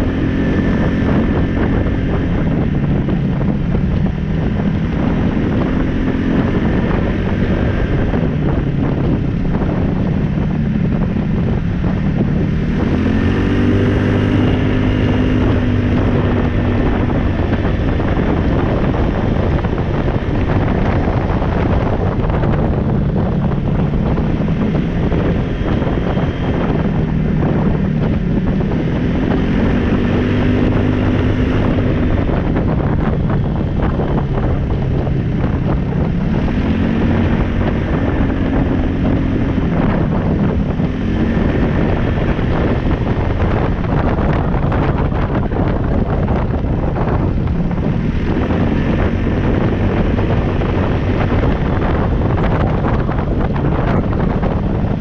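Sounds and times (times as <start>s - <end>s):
engine running and accelerating: 0.0s - 55.0s
wind on the microphone: 0.0s - 55.0s.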